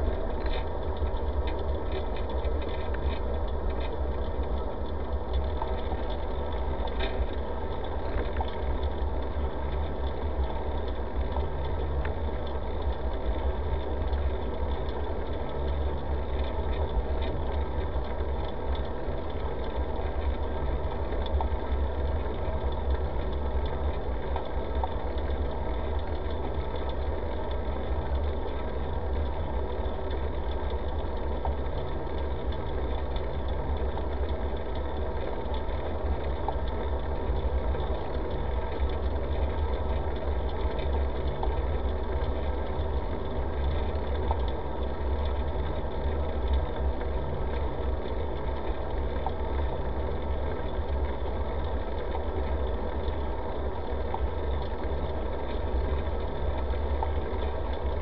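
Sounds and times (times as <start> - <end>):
bicycle rolling on asphalt: 0.0 - 58.0
wind: 0.0 - 58.0.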